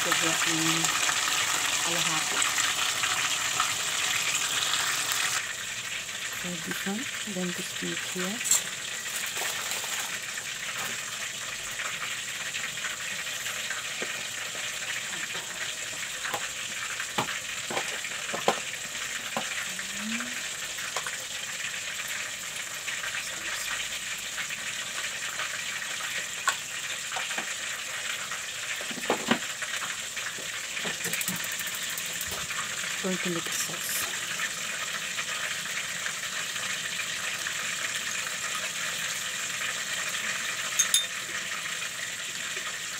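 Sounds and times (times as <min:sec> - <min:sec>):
pot steaming hiss: 0:00.0 - 0:42.9.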